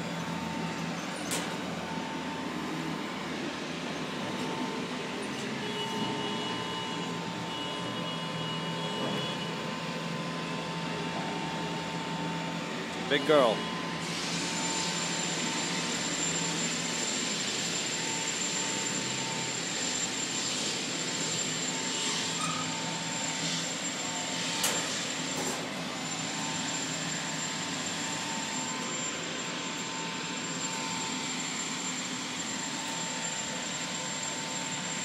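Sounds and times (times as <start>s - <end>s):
high-pitched machine whine: 0.0s - 35.0s.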